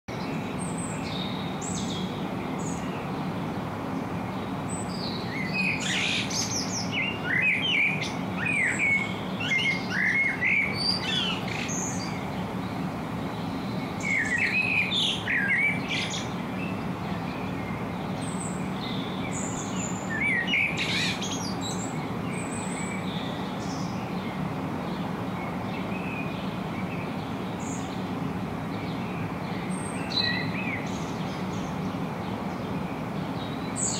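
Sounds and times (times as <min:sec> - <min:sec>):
birds chirping: 0:00.1 - 0:33.9.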